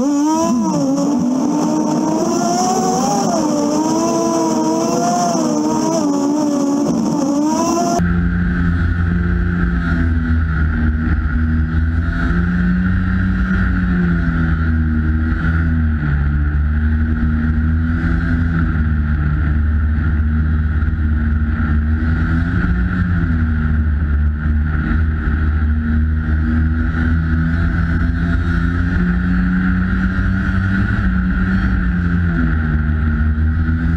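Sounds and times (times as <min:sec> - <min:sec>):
snowmobile engine running: 0:00.0 - 0:33.9.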